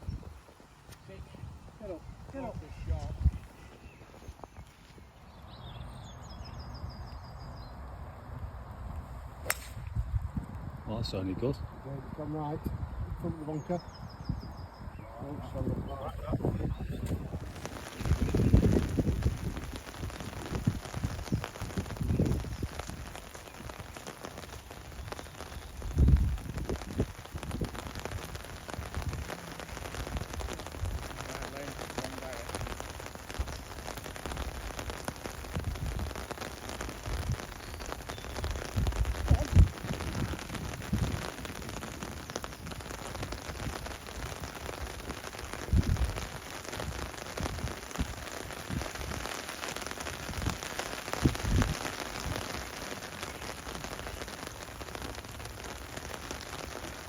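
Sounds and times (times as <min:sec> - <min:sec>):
steady rain falling: 0:00.0 - 0:09.9, 0:13.3 - 0:57.0.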